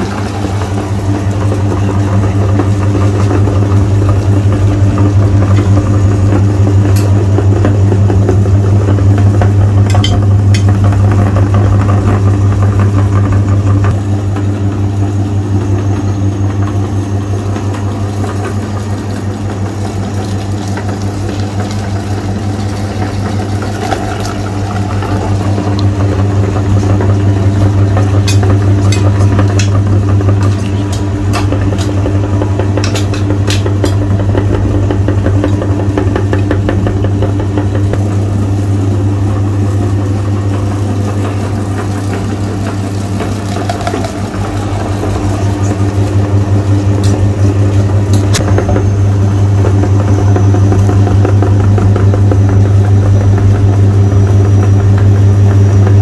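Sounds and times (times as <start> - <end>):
meat grinder motor humming: 0.0 - 56.0.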